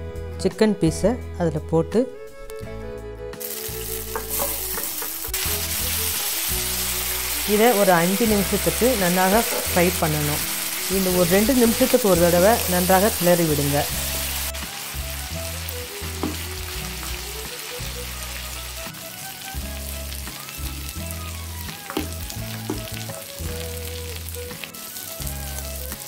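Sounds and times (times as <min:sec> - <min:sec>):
soft background music: 0:00.0 - 0:26.0
chicken sizzling in oil: 0:03.4 - 0:26.0.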